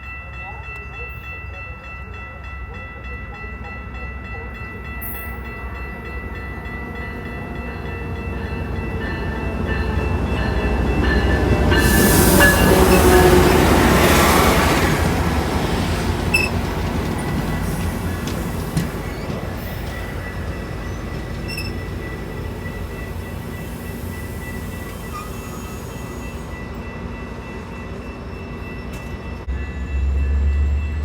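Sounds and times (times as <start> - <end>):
train passing on rails: 0.0 - 31.0.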